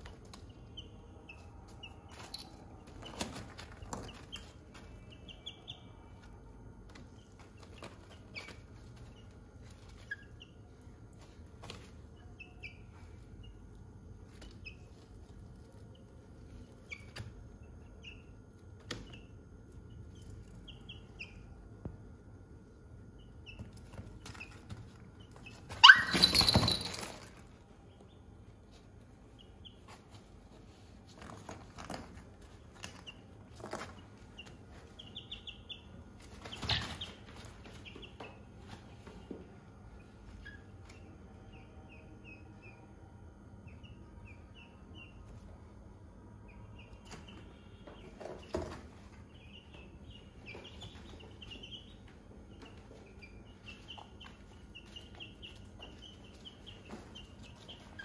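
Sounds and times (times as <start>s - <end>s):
young chickens chirping: 0.0s - 21.7s, 23.1s - 42.9s, 46.4s - 58.0s.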